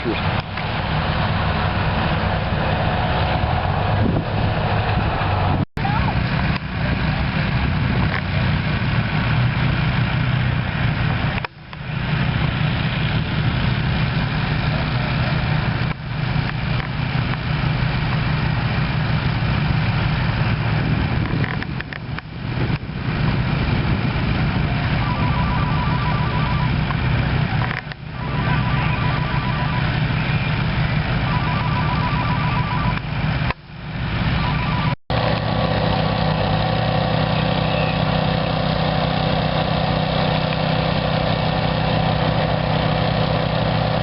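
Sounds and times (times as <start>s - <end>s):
large vehicle engine humming: 0.0s - 44.0s.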